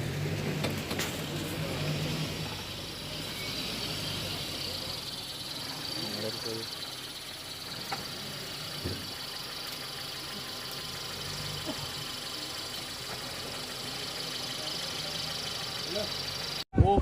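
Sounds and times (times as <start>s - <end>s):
jeep engine idling: 0.0s - 16.7s.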